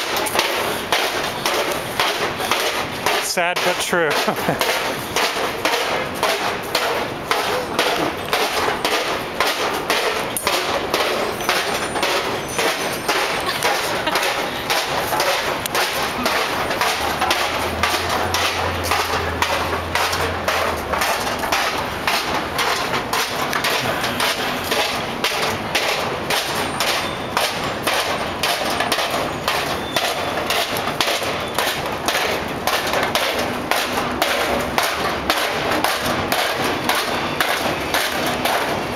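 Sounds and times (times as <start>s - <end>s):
metal ducting rattling: 0.0s - 38.9s
walking thumps and knocks: 0.0s - 38.9s.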